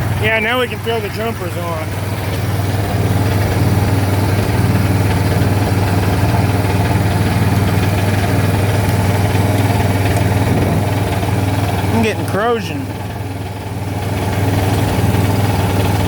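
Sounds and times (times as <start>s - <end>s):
engine running at high idle: 0.0s - 16.0s.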